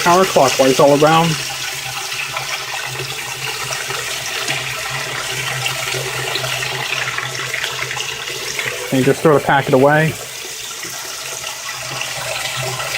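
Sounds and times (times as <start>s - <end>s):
water rushing into washing machine: 0.0s - 12.9s.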